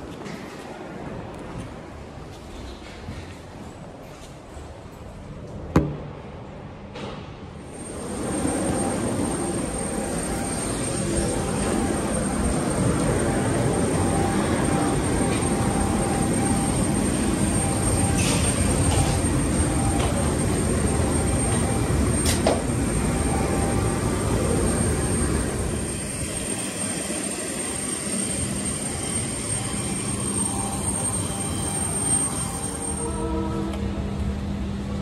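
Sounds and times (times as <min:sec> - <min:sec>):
jet aircraft whine and rumble: 0:06.6 - 0:35.0.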